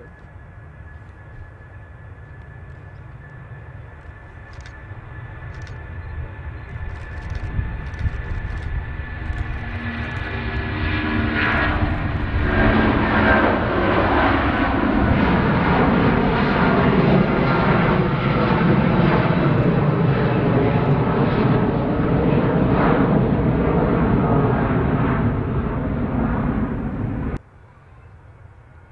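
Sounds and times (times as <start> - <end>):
jet engine whine: 0.0 - 28.9
jet engines rumbling: 0.0 - 28.9.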